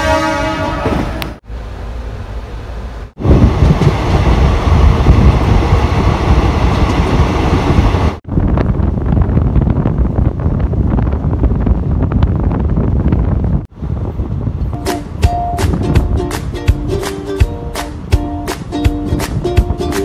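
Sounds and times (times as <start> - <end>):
train wheels rumbling: 0.0 - 18.2
wind buffeting microphone: 3.2 - 20.0.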